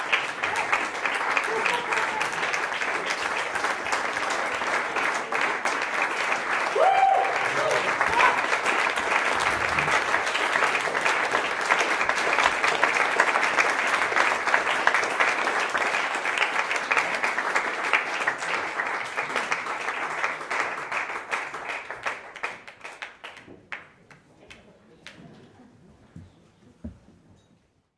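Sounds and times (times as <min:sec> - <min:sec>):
crowd applause: 0:00.0 - 0:25.2.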